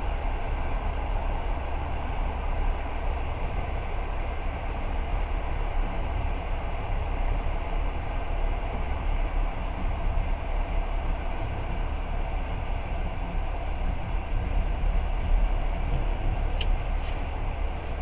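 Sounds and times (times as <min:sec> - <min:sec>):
train rumbling at speed: 0:00.0 - 0:18.0.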